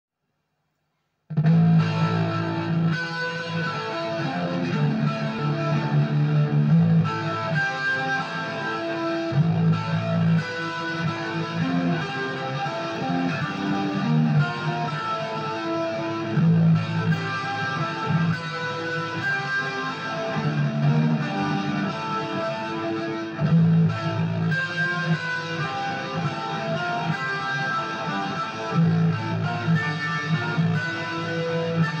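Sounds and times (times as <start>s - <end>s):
guitar playing chords: 1.3s - 32.0s.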